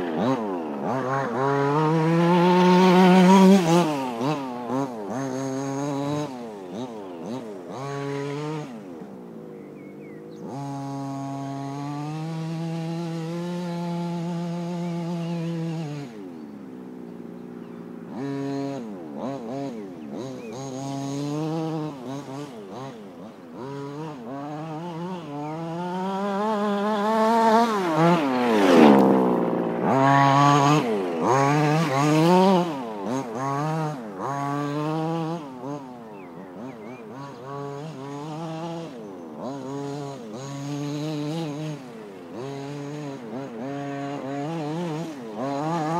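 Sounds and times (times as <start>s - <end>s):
small two-stroke engine revving: 0.0s - 45.9s.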